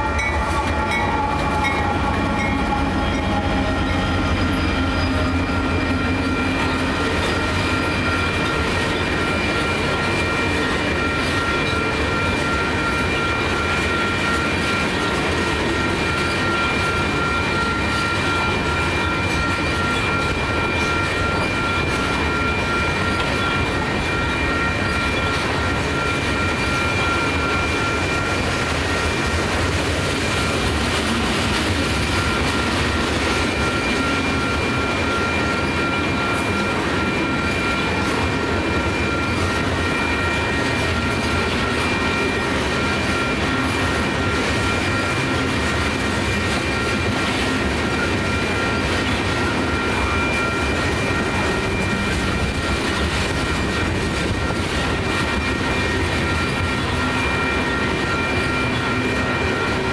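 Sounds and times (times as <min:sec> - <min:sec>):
freight train rumbling over rails: 0:00.0 - 0:59.9
high-pitched ringing tones: 0:00.0 - 0:59.9.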